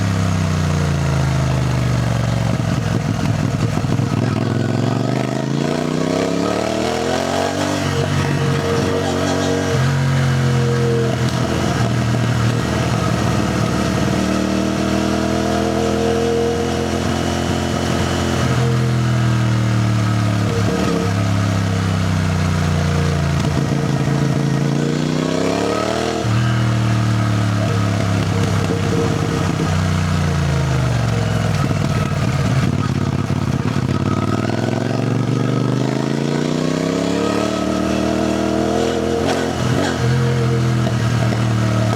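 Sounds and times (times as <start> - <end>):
motorcycle engine shifting gears: 0.0 - 41.9.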